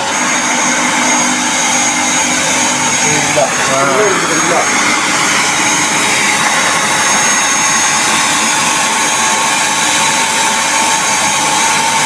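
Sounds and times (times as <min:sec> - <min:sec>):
nozzle sucking up water: 0:00.0 - 0:11.7
vacuum cleaner whining: 0:00.0 - 0:12.0.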